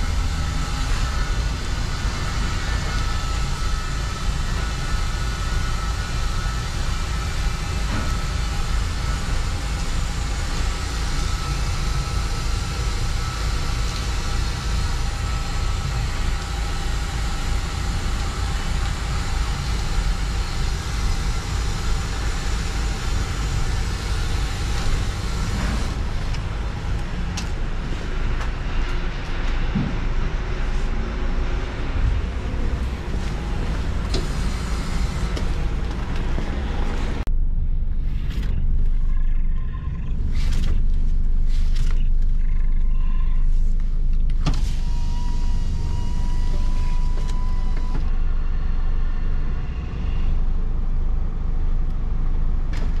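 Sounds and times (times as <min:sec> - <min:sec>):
faint steady whines: 0:00.0 - 0:53.0
road noise: 0:00.0 - 0:53.0
truck diesel engine drone: 0:00.0 - 0:53.0.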